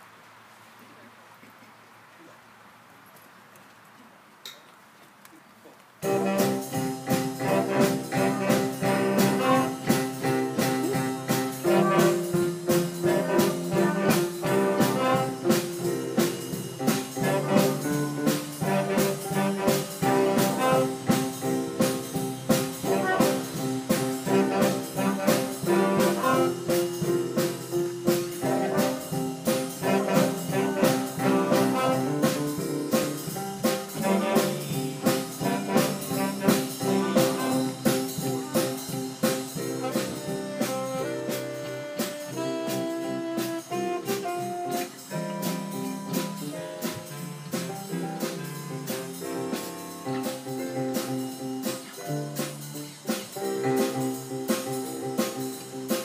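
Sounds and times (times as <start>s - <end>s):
brass-led jazz band: 6.0s - 56.0s
steady drum beat: 6.0s - 56.0s.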